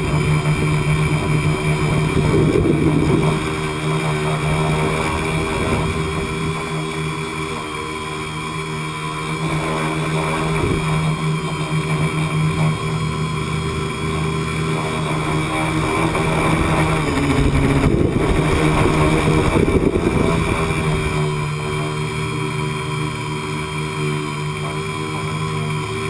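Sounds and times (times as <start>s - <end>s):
electric motors and propellers whining: 0.0s - 26.0s.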